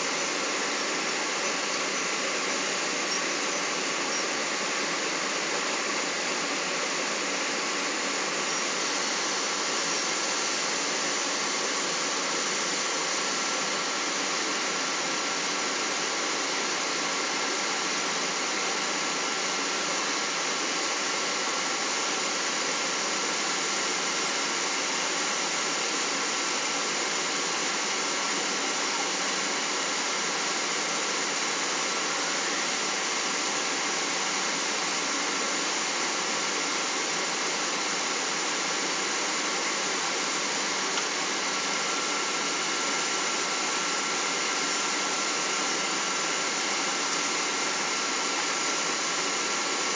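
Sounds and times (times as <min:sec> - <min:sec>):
airflow and jet engine rush: 0:00.0 - 0:49.9
faint steady whine: 0:00.0 - 0:49.9.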